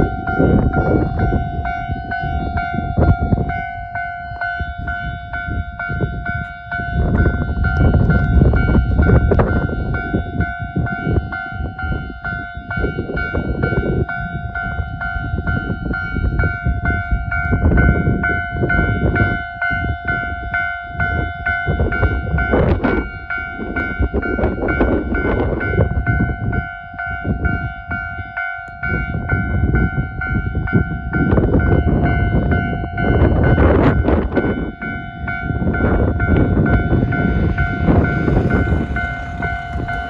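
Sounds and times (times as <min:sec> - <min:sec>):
blizzard wind: 0:00.0 - 0:40.0
diesel train rumbling past: 0:00.0 - 0:40.0
level-crossing alarm bell: 0:00.0 - 0:40.0.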